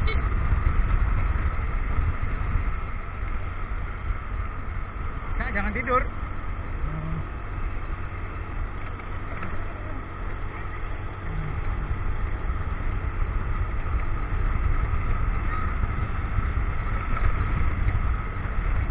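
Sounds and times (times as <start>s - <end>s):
motorcycle engine rumble: 0.0s - 18.9s.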